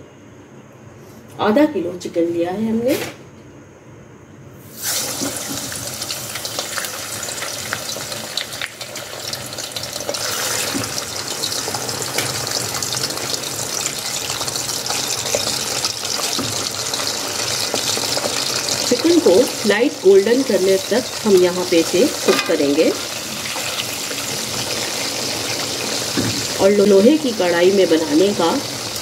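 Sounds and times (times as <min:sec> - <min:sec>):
chicken sizzling in hot oil: 0:04.6 - 0:29.0.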